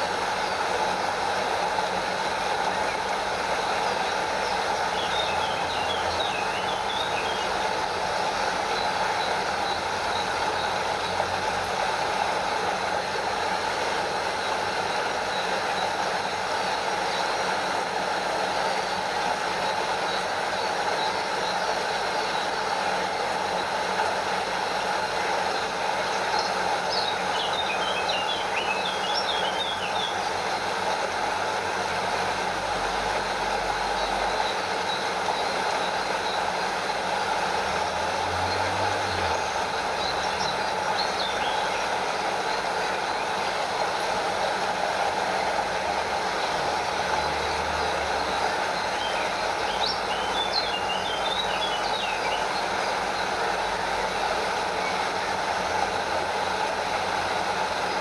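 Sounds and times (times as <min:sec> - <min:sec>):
stream over small waterfall: 0:00.0 - 0:58.0.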